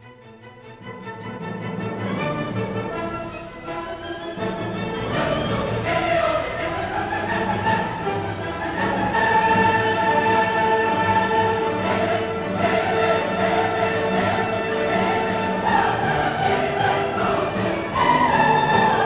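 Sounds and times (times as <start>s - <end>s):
classical orchestral music: 0.0s - 19.0s
choir singing sustained chords: 2.9s - 19.0s.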